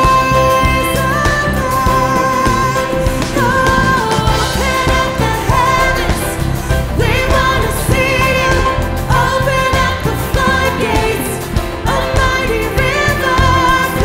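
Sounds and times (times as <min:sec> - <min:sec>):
band playing worship song: 0:00.0 - 0:14.0
woman singing: 0:00.0 - 0:14.0.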